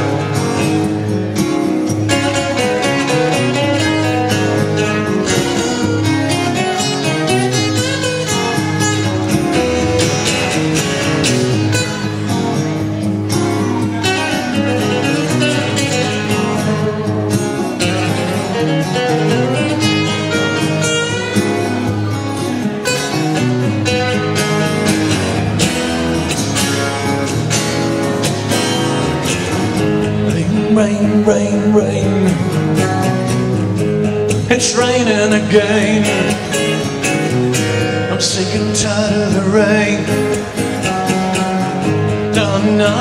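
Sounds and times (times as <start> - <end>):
two acoustic guitars playing: 0.0 - 43.0.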